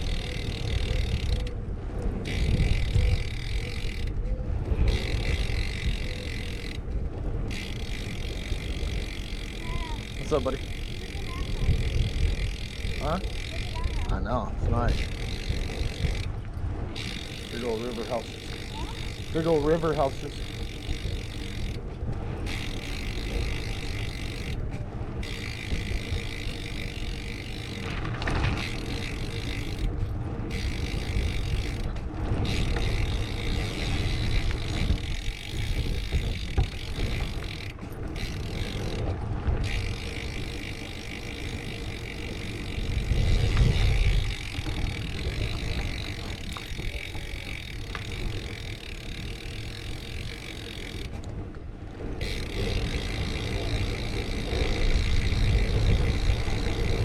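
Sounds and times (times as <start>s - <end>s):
bicycle rolling noise: 0.0s - 57.0s
wind rumbling on microphone: 0.0s - 57.0s.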